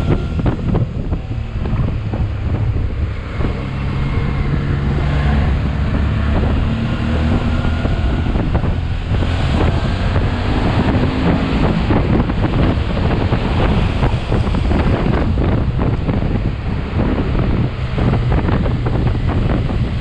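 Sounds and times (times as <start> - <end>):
motorcycle engine: 0.0 - 20.0
wind buffeting on microphone: 0.0 - 20.0.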